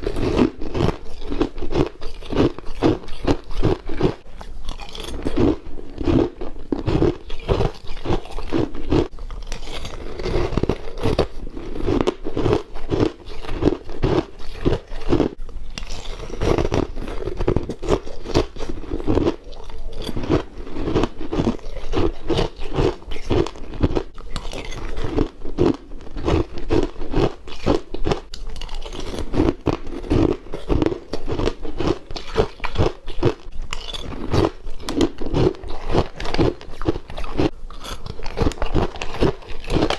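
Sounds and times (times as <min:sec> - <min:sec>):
person chewing crunchy frost: 0:00.0 - 0:39.9.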